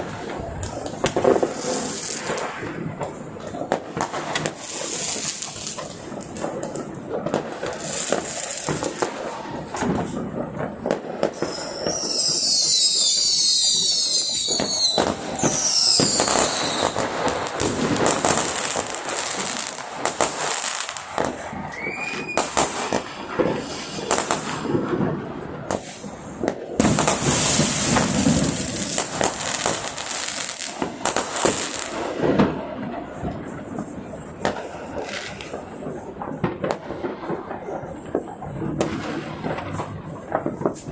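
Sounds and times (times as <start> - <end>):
falling firework whistles: 0.0 - 2.9, 3.7 - 32.6, 38.3 - 40.9
firecrackers crackling: 0.0 - 40.9.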